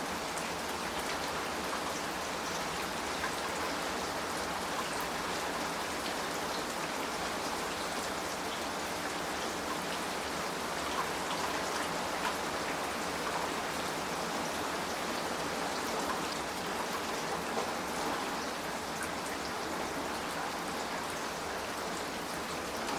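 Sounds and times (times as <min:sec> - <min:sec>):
rain on a tiled roof: 0:00.0 - 0:22.9.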